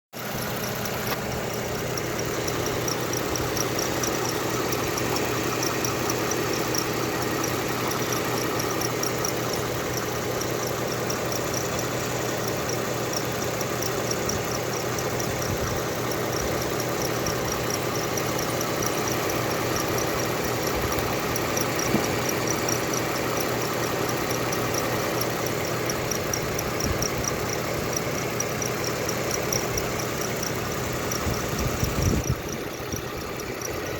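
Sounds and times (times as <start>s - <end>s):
car engine idling: 0.1s - 33.9s
high-pitched engine chirp: 0.2s - 33.9s.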